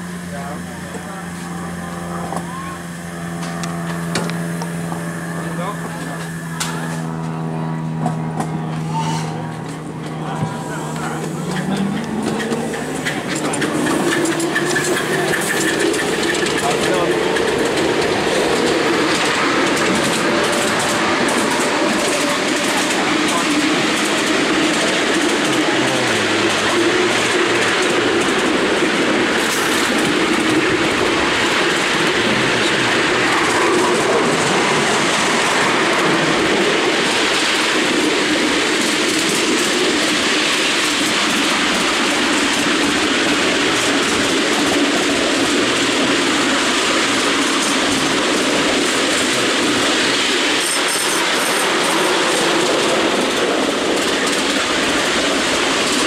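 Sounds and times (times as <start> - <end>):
miniature train wheels clattering on rails: 11.0 - 56.0.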